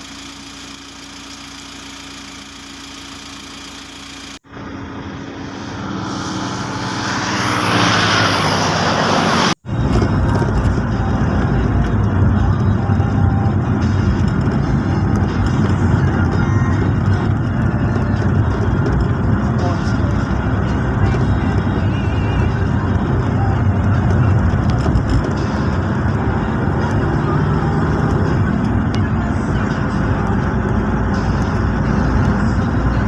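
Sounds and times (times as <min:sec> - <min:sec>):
low rumble of moving vehicle: 0:00.0 - 0:33.0
vehicle hum: 0:00.0 - 0:33.0.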